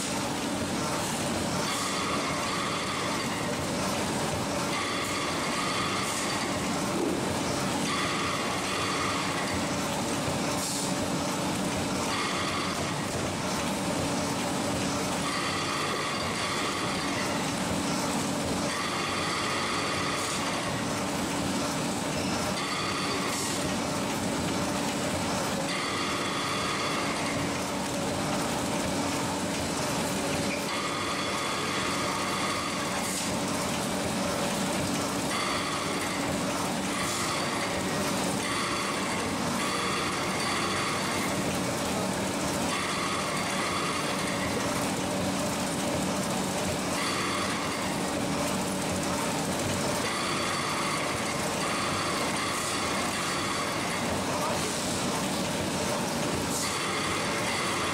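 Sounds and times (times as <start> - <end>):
high machine whine: 0.0 - 57.9
packaging machine humming: 0.0 - 57.9.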